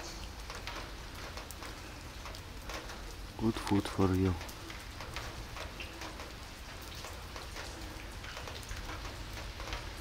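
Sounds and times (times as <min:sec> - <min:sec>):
rain falling on pavement: 0:00.0 - 0:10.0.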